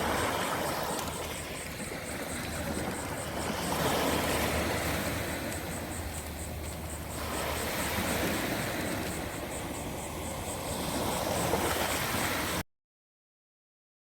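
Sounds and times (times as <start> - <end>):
ocean surf breaking: 0.0 - 12.6.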